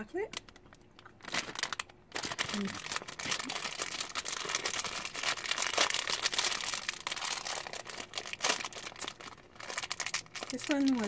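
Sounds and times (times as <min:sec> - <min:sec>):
plastic candy wrapper crinkling: 0:00.2 - 0:11.0.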